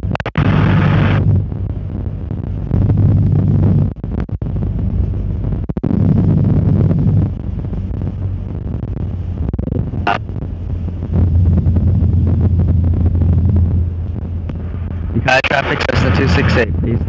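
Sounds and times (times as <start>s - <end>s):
airflow noise: 0.4s - 17.0s
small plane engine droning: 0.4s - 17.0s.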